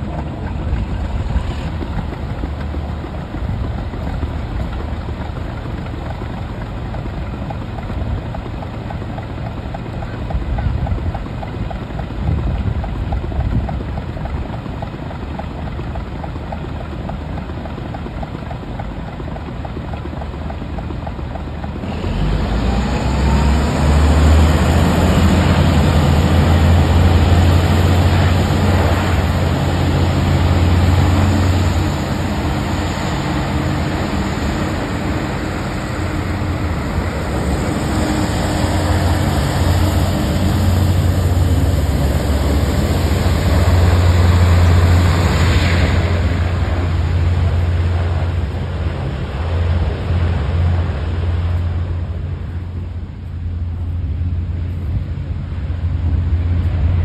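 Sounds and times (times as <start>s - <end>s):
hovercraft deep drone: 0.0s - 57.0s.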